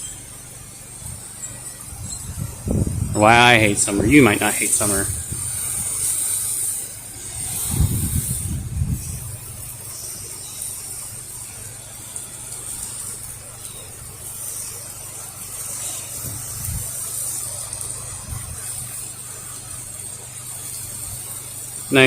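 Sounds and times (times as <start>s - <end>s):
pressure washer engine hum: 0.0s - 22.0s
water spraying hiss: 0.0s - 22.0s.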